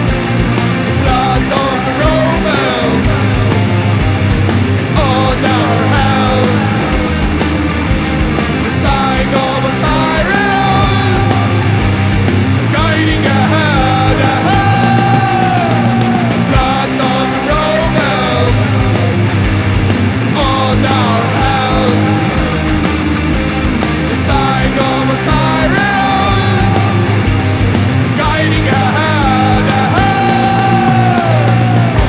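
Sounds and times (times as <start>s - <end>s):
doom metal band playing: 0.0s - 32.0s.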